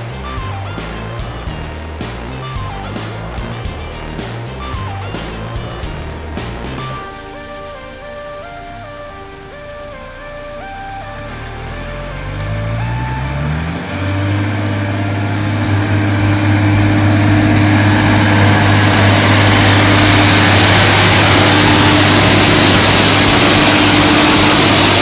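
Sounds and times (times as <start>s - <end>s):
loud rushing noise: 0.0s - 25.0s
vehicle engine running: 0.0s - 25.0s.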